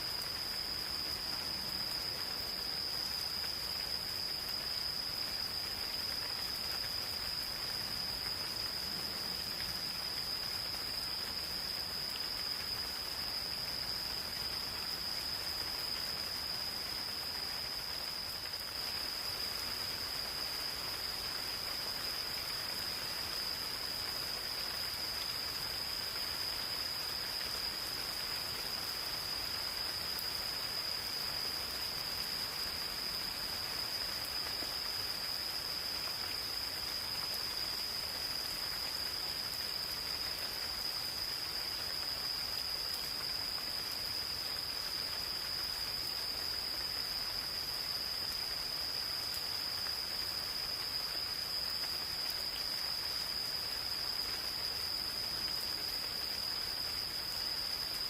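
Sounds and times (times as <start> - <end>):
gentle rain pattering: 0.0 - 58.0
insects trilling: 0.0 - 58.0.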